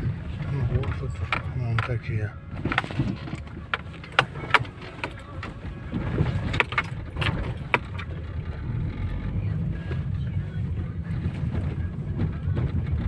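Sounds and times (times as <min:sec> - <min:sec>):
road rumble inside car: 0:00.0 - 0:13.0
suspension knocks and rattles: 0:00.0 - 0:13.0.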